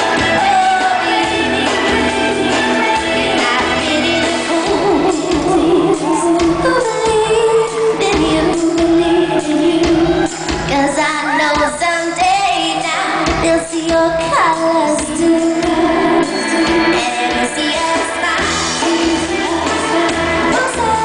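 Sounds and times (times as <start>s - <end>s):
full band playing: 0.0s - 21.0s
woman singing: 0.0s - 21.0s.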